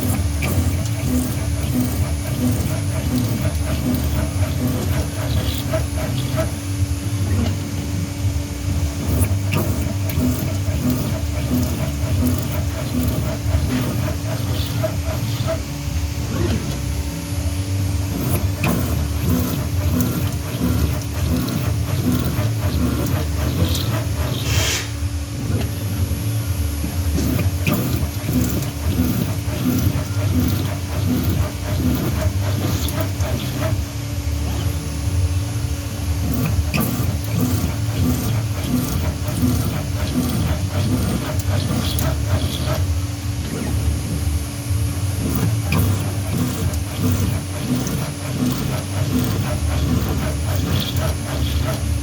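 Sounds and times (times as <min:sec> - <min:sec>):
router spindle humming: 0:00.0 - 0:52.0.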